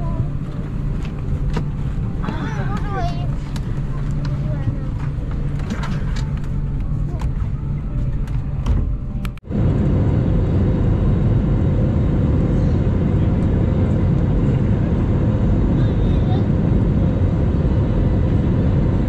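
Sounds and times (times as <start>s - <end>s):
jet engine and airflow noise: 0.0s - 19.0s.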